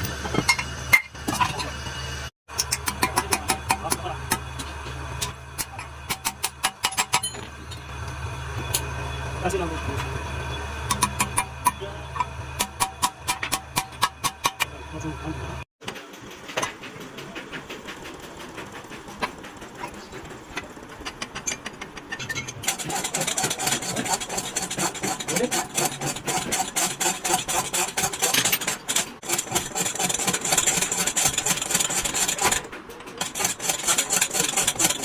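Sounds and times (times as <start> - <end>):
mechanical knocking and clattering: 2.5 - 15.1, 15.8 - 35.0.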